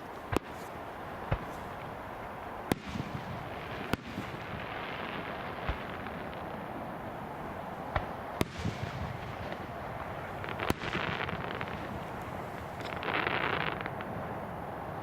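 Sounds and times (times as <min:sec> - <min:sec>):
firework bangs: 0:00.0 - 0:14.6
firework crackling: 0:00.0 - 0:15.0
steady background hiss: 0:00.0 - 0:15.0.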